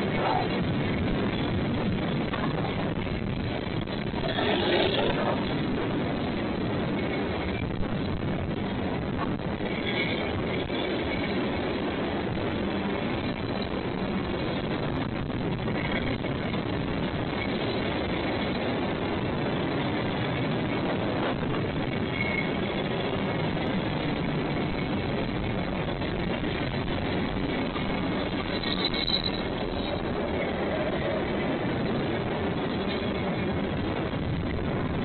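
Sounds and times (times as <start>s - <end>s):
train rolling on rails: 0.0s - 35.0s.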